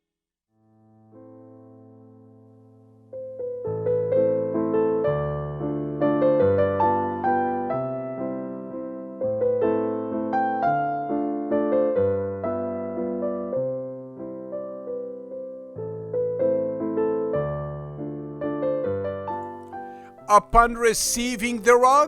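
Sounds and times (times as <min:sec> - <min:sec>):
electric piano melody: 0:00.7 - 0:22.0.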